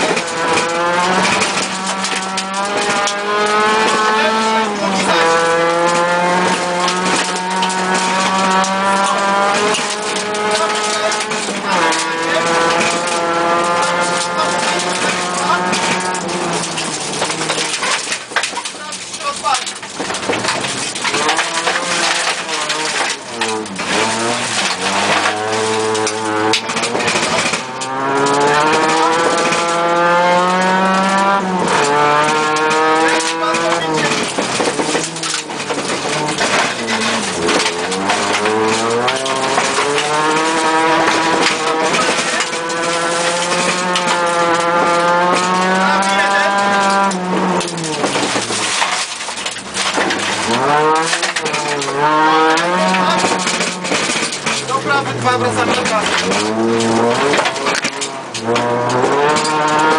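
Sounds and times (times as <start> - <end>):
rally car engine accelerating: 0.0 - 59.9
tyre and gravel noise: 0.0 - 59.9.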